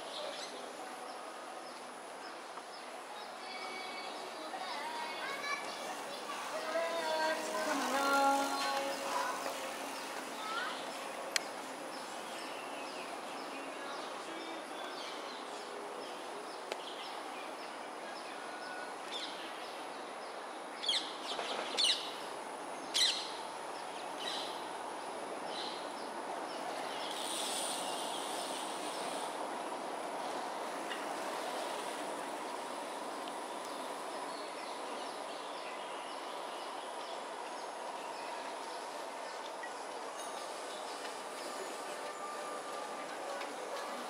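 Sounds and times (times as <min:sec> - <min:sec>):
outdoor background noise: 0:00.0 - 0:44.0.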